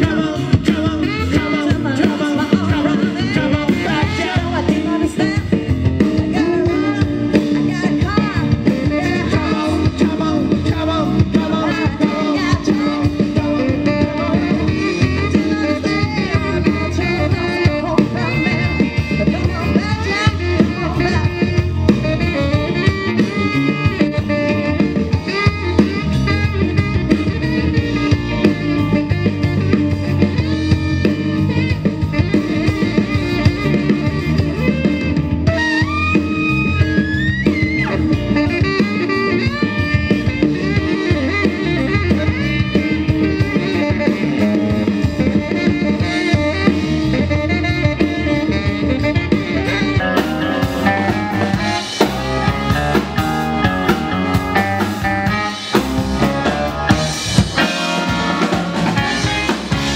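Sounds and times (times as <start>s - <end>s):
bass: 0.0s - 59.9s
drum kit beat: 0.0s - 59.9s
guitar with bending notes: 0.0s - 59.9s.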